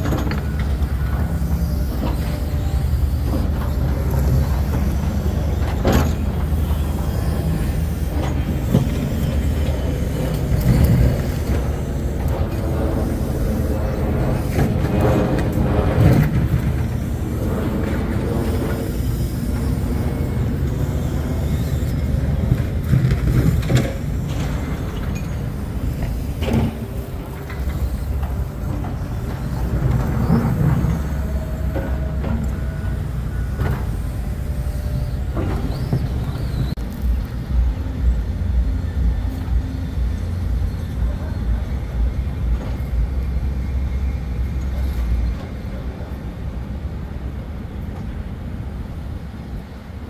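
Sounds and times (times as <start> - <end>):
vehicle rumble: 0.0 - 50.0.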